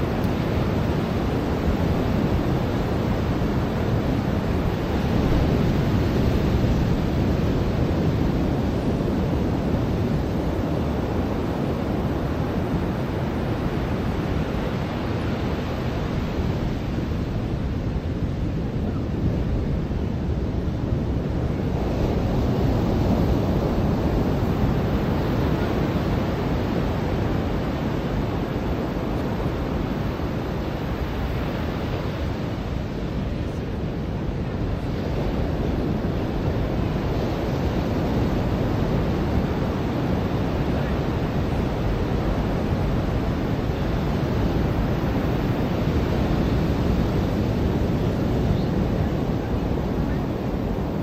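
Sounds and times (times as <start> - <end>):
ocean surf washing onto beach: 0.0 - 51.0.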